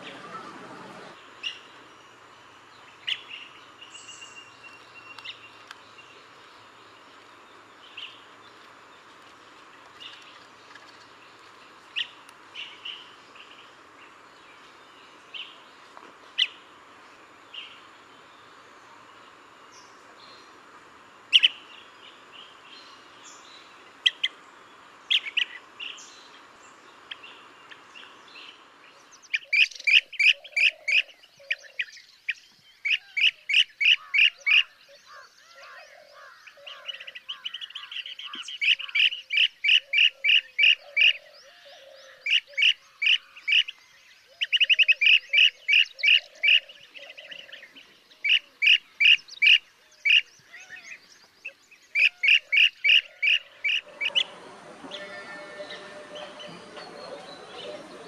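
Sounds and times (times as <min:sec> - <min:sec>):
bird calling rolling chirps: 0:00.0 - 0:20.6, 0:21.2 - 0:58.0
background hiss: 0:00.0 - 0:58.0.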